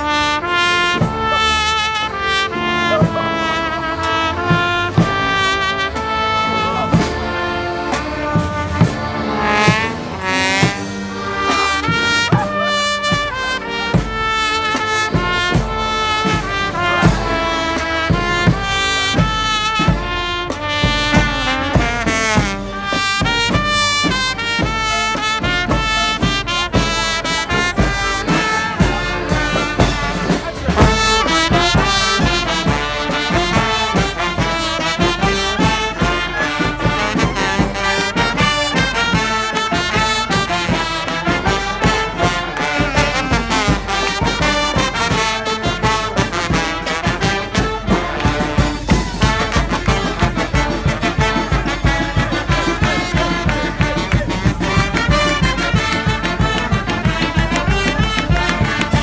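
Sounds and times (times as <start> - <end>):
steady drum beat: 0.0 - 59.0
trumpets and trombones: 0.0 - 59.0.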